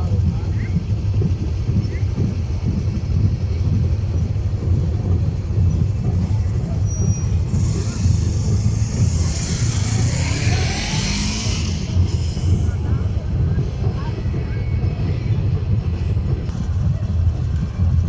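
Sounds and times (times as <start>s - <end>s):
motorcycle engine rumbling: 0.0s - 18.0s.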